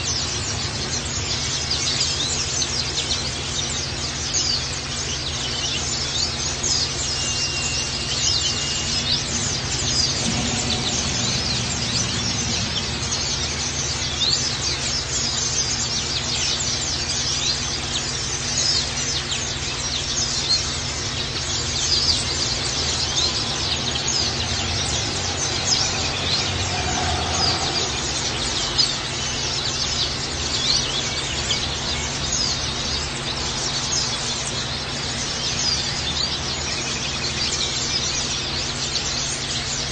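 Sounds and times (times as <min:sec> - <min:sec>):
small birds chirping rapidly: 0:00.0 - 0:39.9.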